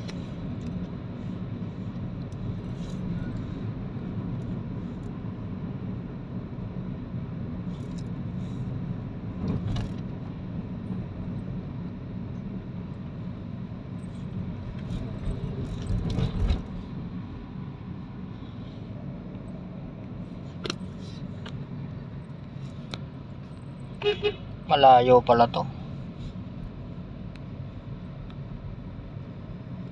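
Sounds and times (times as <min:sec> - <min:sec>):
car cabin road rumble: 0:00.0 - 0:29.9.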